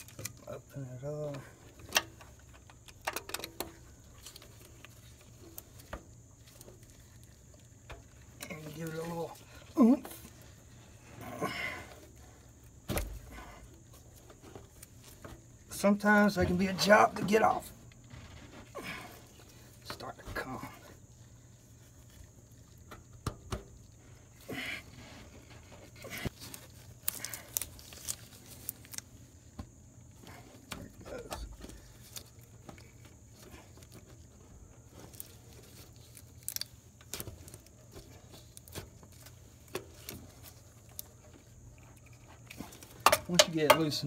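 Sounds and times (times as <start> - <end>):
gloves rustling: 3.6 - 23.1, 23.8 - 44.0.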